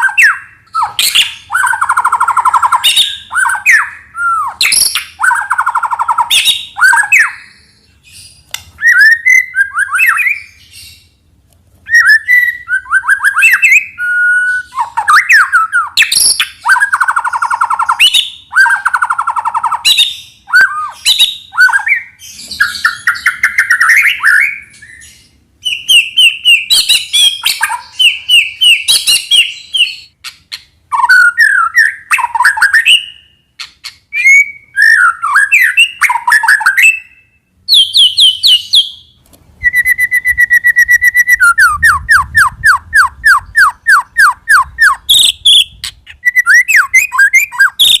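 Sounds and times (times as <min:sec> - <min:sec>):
bird singing whistles and trills: 0:00.0 - 0:11.2, 0:11.8 - 0:48.0.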